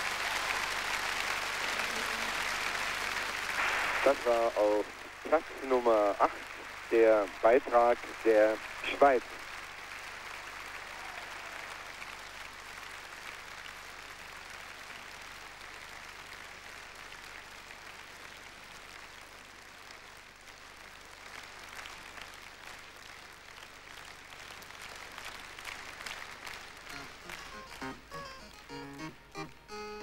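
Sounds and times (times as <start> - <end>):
audience applauding: 0.0 - 29.6.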